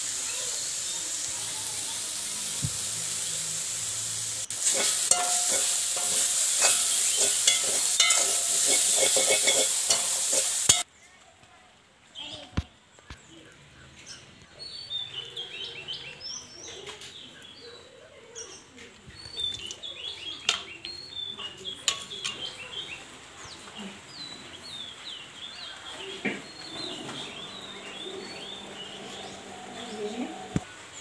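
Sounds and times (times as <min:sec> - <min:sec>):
small birds chirping: 0:04.5 - 0:11.2, 0:12.1 - 0:31.0.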